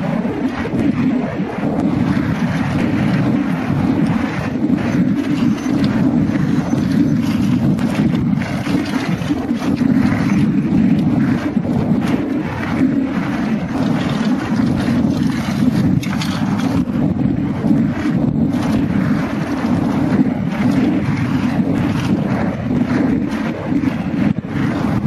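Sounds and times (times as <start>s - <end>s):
wind rushing over microphone: 0.0s - 25.0s
bike clattering over rough trail: 1.8s - 25.0s.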